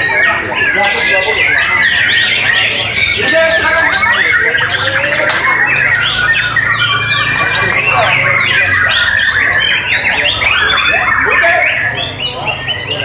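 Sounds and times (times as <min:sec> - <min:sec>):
many songbirds singing: 0:00.0 - 0:13.0.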